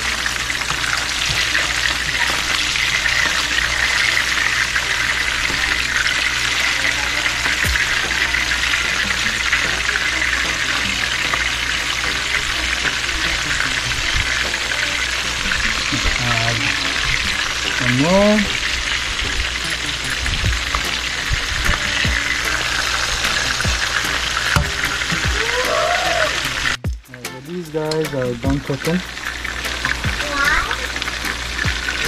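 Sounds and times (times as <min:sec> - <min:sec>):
fish frying in hot oil: 0:00.0 - 0:32.0.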